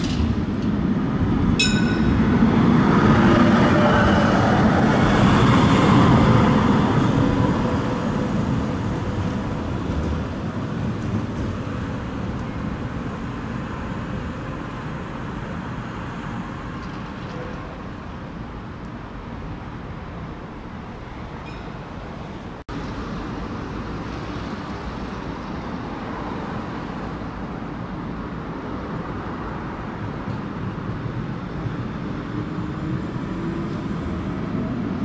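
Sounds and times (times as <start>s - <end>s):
tram rumbling along track: 0.0s - 35.0s.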